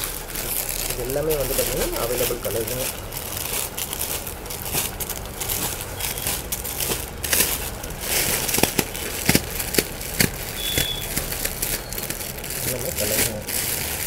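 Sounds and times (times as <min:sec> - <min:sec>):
plastic packaging crinkling: 0:00.0 - 0:14.0
sharp plastic crackles: 0:00.0 - 0:14.0.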